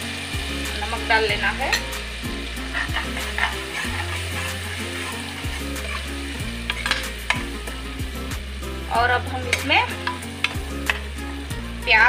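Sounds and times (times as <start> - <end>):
background music: 0.0 - 12.0
onions sizzling in oil: 0.0 - 12.0.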